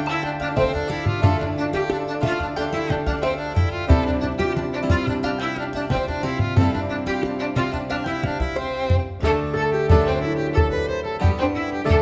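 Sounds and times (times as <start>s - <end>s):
music with strings and beat: 0.0s - 12.0s.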